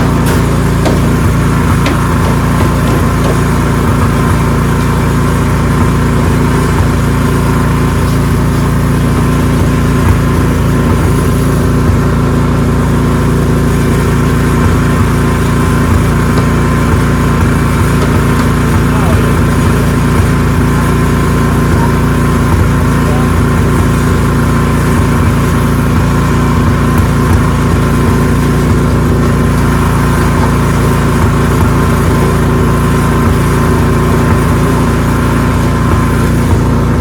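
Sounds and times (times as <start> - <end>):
snowblower engine running: 0.0 - 37.0.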